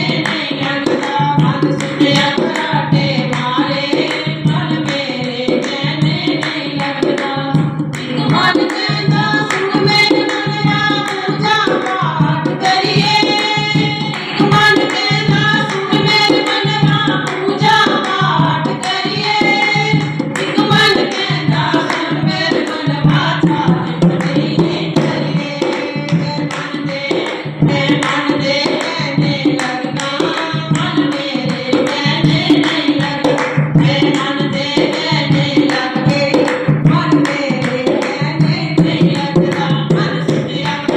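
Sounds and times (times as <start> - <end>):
hand drum beat: 0.0 - 40.9
person singing devotional song: 0.0 - 40.9.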